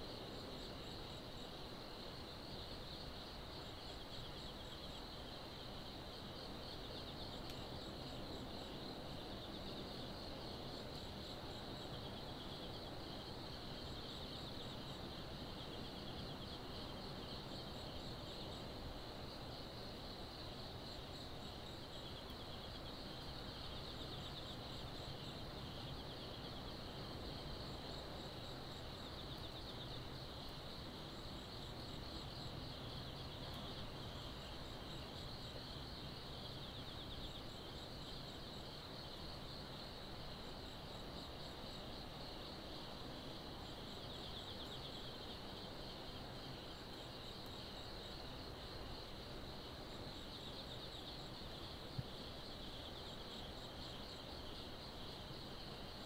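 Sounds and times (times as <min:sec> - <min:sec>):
crickets trilling: 0:00.0 - 0:56.0
high insect chirping: 0:00.0 - 0:56.0.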